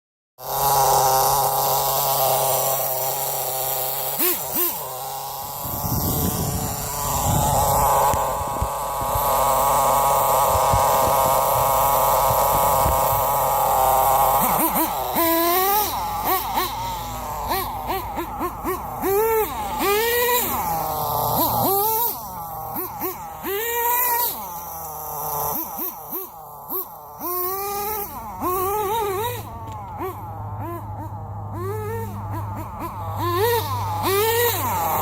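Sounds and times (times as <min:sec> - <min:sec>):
model engine revving: 0:00.4 - 0:35.0.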